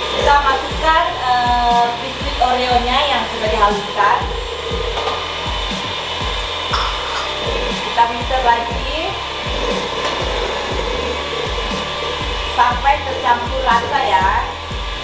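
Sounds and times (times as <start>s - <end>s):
electric hand mixer whirring: 0.0s - 15.0s.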